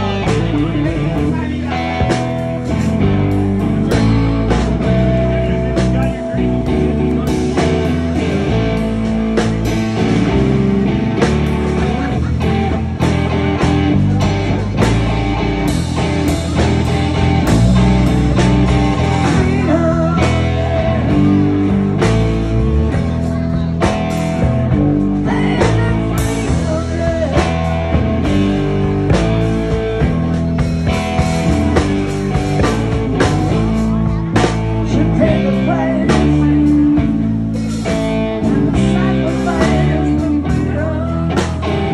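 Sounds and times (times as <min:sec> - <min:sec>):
bass guitar: 0:00.0 - 0:41.9
drums: 0:00.0 - 0:41.9
electric guitar: 0:00.0 - 0:41.9.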